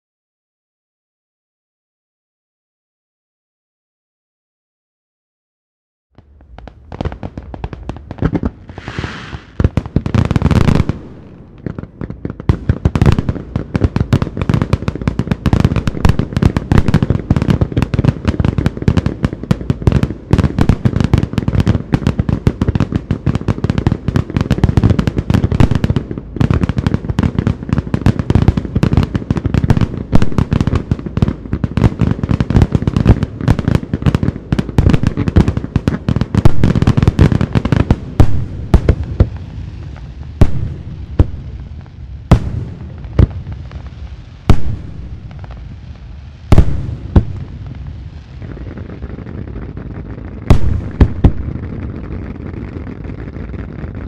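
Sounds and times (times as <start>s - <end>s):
fireworks cracking bangs: 6.2s - 54.0s.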